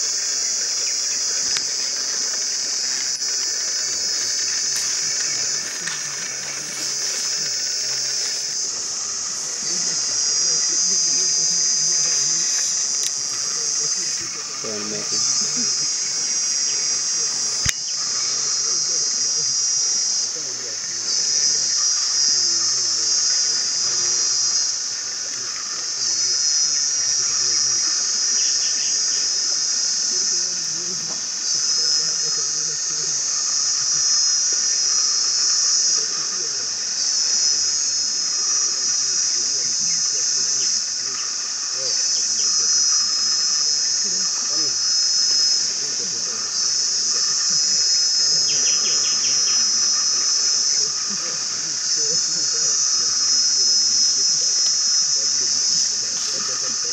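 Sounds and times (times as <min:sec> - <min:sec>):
insect chorus drone: 0:00.0 - 0:56.9.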